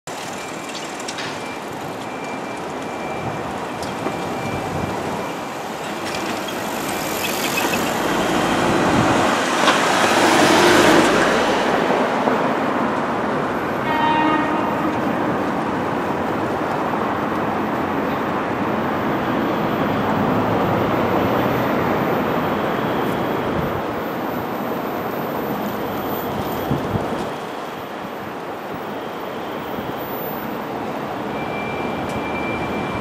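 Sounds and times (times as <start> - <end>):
train rumble: 0.1 - 27.6.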